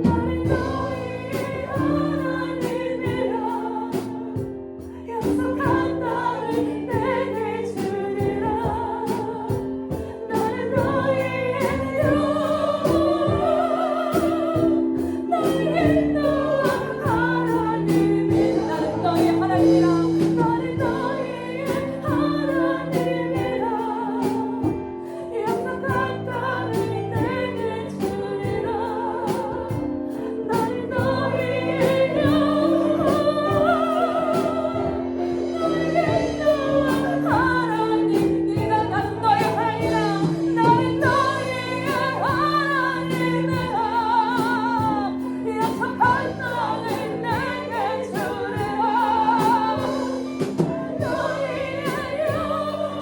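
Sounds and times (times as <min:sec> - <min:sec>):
steady drum beat: 0:00.0 - 0:53.0.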